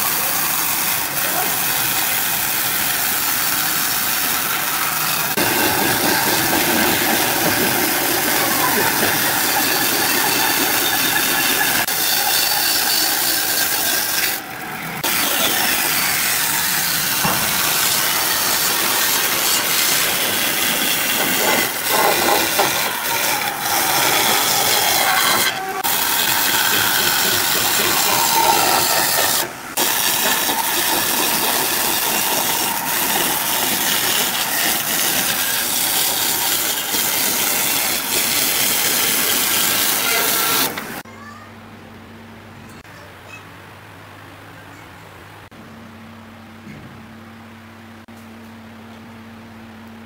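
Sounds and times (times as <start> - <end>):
bandsaw cutting wood: 0.0 - 41.0.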